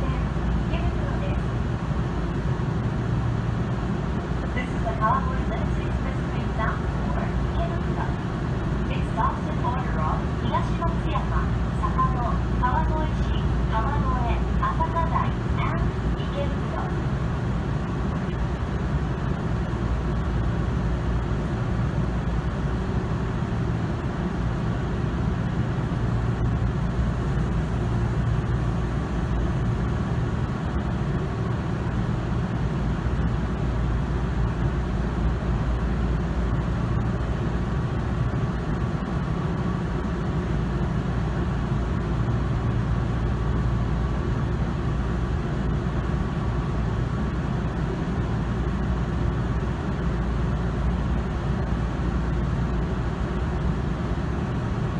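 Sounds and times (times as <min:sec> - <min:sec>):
electric train humming: 0:00.0 - 0:54.9
faint steady whine: 0:00.0 - 0:54.9.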